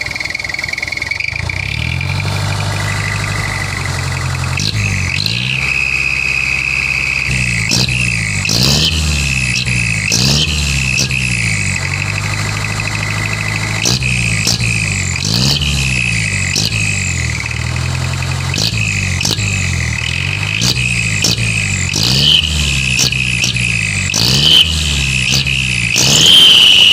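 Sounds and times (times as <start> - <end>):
steady high whine: 0.0 - 26.9
truck engine revving: 0.0 - 26.9.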